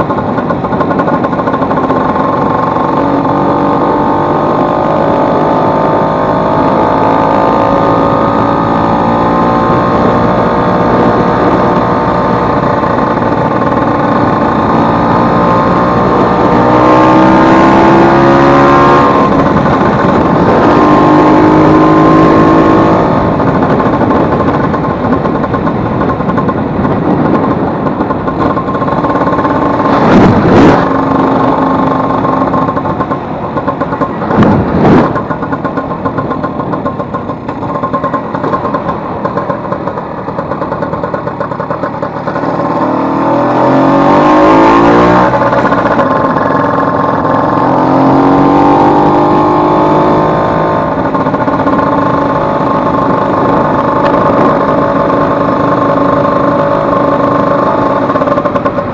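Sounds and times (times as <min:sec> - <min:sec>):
scooter engine revving: 0:00.0 - 0:58.9.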